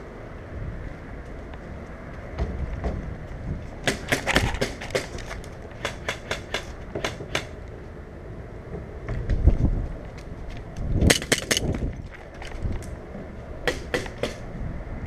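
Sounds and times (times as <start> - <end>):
wind rumble on microphone: 0.0 - 5.7, 7.6 - 15.0.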